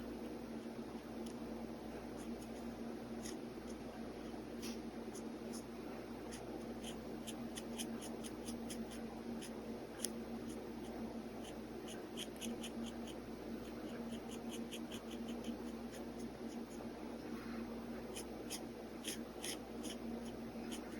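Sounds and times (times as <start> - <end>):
faint steady hum: 0.0 - 20.9
pen nib scratching on paper: 1.9 - 4.4, 5.1 - 16.8, 18.1 - 20.9.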